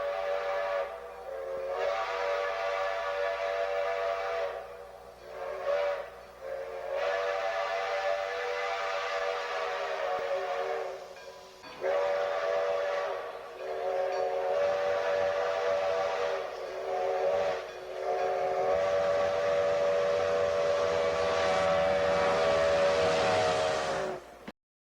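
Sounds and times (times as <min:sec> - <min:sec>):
steam hiss: 0:00.0 - 0:24.5
steam train whistle blasts: 0:00.0 - 0:24.5.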